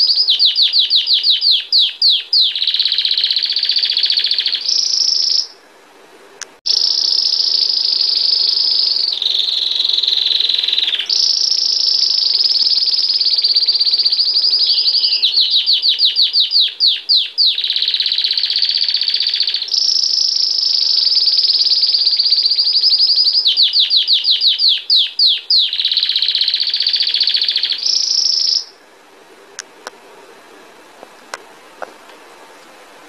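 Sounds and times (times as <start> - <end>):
canary singing fast trills: 0.0 - 5.6, 6.6 - 28.8.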